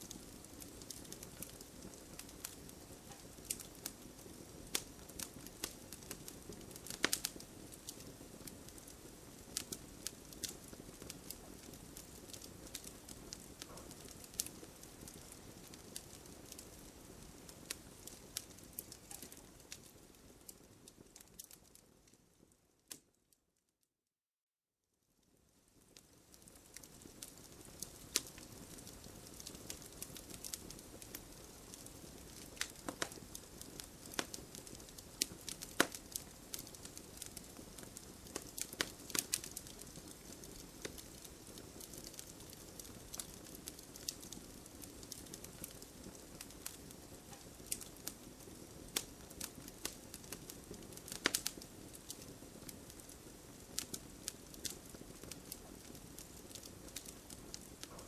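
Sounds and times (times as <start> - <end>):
campfire crackling and popping: 0.0 - 23.2, 25.3 - 58.0.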